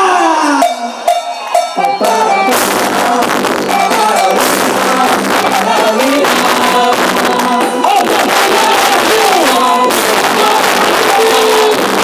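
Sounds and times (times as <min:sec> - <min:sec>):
person singing: 0:00.0 - 0:01.1, 0:01.7 - 0:12.0
loud band music: 0:00.0 - 0:12.0.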